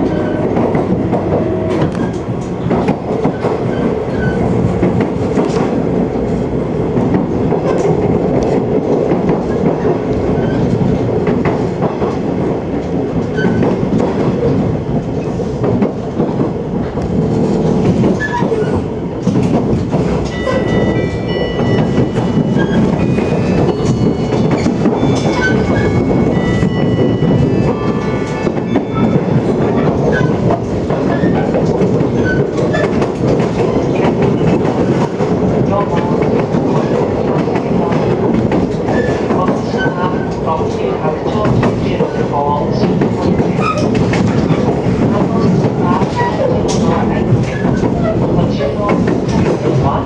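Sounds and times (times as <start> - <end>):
train rumble: 0.0 - 50.0
wheels clacking over rail joints: 0.0 - 50.0.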